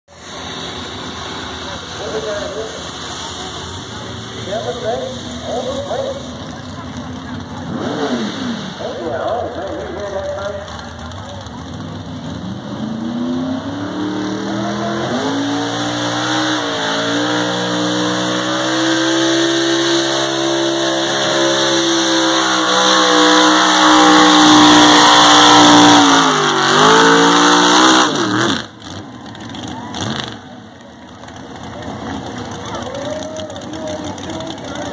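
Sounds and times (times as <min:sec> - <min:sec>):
truck engine at full throttle: 0:00.1 - 0:34.9.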